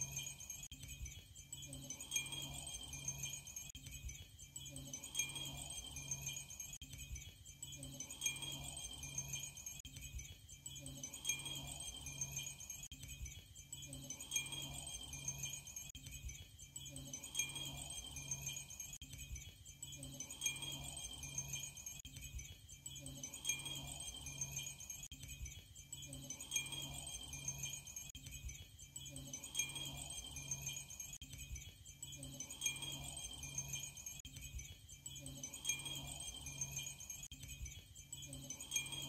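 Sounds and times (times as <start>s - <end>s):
glass wind chimes tinkling: 0.0s - 39.0s.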